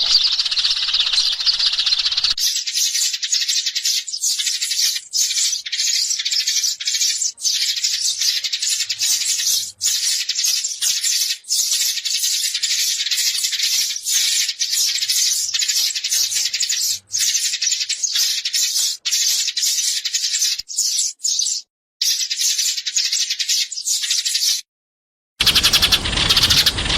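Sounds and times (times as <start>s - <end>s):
sparrows chirping: 0.0s - 24.6s, 25.4s - 26.9s.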